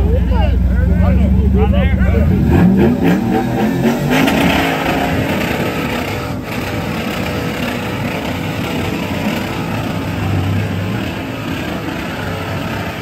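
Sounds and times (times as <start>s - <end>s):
off-road buggy engine under load: 0.0s - 13.0s
tires spinning in loose dirt: 1.6s - 13.0s.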